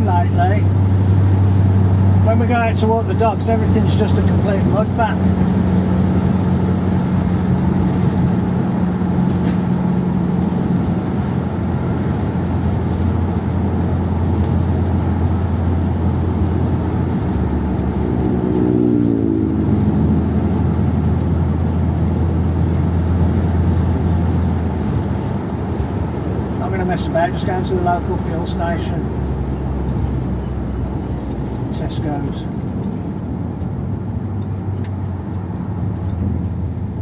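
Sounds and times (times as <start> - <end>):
car engine cruising: 0.0 - 37.0
road and tyre noise: 0.0 - 37.0.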